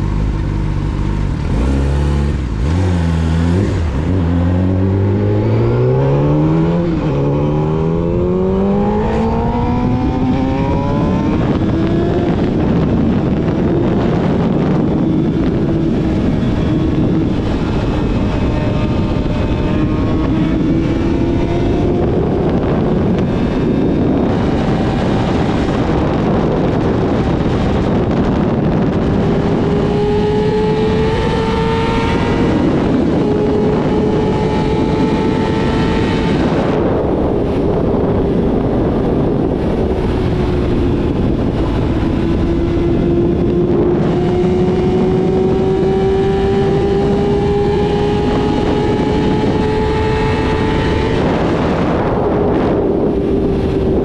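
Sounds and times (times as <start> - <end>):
motorcycle engine accelerating: 0.0 - 54.0
rushing wind noise: 0.0 - 54.0.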